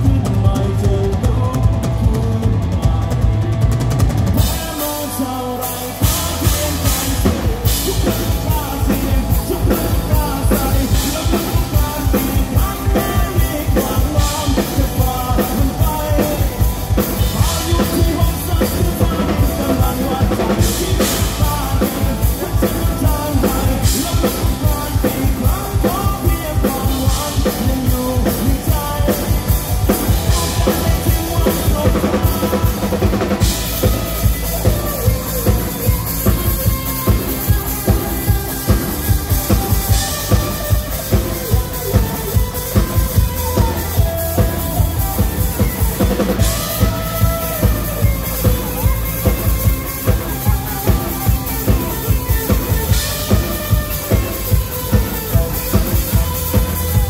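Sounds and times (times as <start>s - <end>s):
drum kit: 0.0s - 57.0s
rock band playing: 0.0s - 57.0s.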